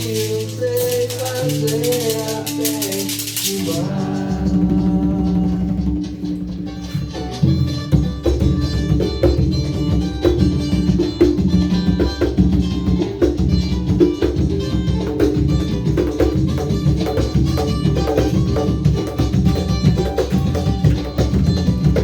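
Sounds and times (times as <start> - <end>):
drums and hand percussion: 0.0 - 22.0
plucked guitar: 0.0 - 22.0.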